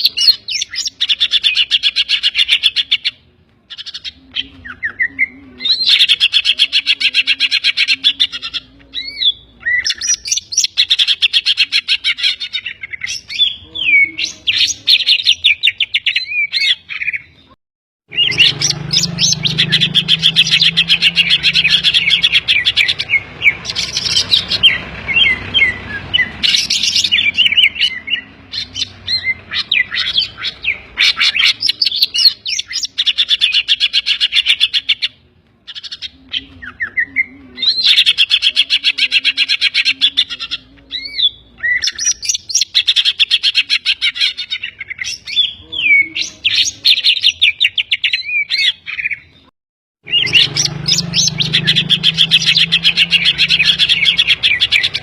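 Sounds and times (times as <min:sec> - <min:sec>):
bird singing chirps and trills: 0:00.0 - 0:55.0.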